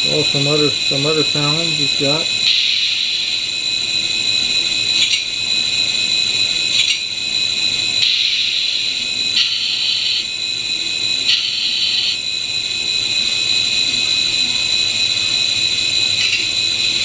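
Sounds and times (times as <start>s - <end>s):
model locomotive engine sound: 0.0s - 17.0s
steady high whine: 0.0s - 17.0s.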